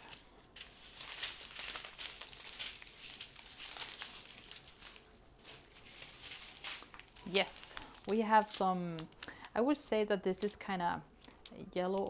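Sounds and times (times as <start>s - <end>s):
small plastic bags crinkling: 0.0s - 12.0s.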